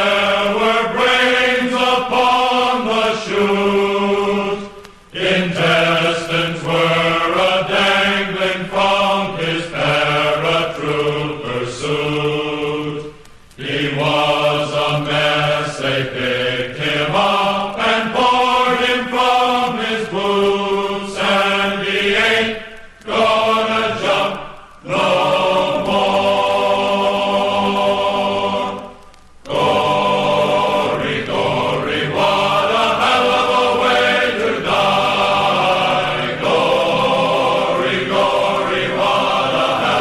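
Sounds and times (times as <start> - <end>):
men's choir singing: 0.0 - 40.0.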